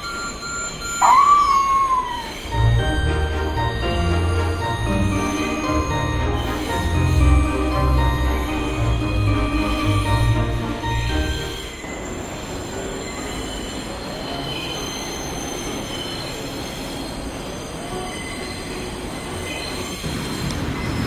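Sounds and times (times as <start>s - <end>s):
high squealing tones: 0.7s - 20.0s
train rumbling: 0.9s - 21.0s.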